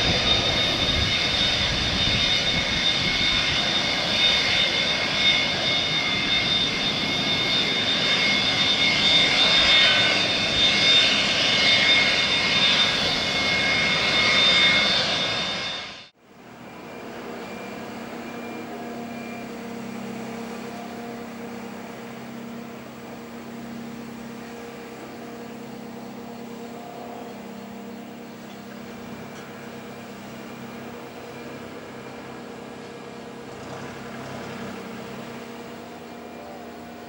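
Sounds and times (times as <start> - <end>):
jet engines idling: 0.0 - 37.0.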